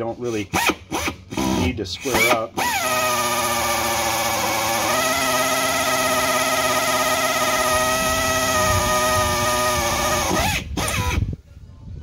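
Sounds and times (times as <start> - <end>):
hand drill whining: 0.5 - 11.3.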